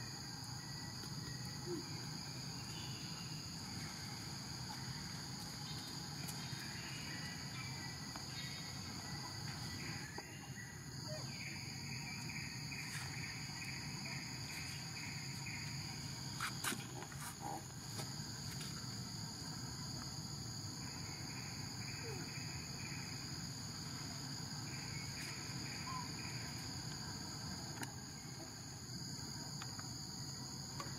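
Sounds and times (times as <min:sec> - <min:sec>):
insect chorus: 0:00.0 - 0:30.9
pulsing insect call: 0:00.0 - 0:30.9.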